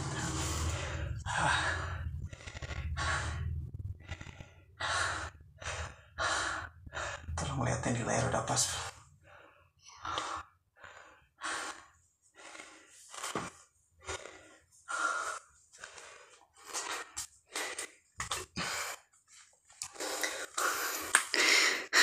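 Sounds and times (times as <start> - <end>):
man panting heavily: 0.0 - 7.4, 9.2 - 18.0, 19.9 - 22.0.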